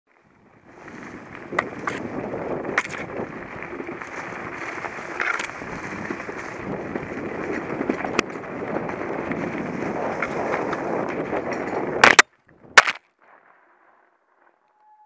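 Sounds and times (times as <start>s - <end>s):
dry grass rustling: 0.1s - 14.8s
wind noise: 0.2s - 13.8s.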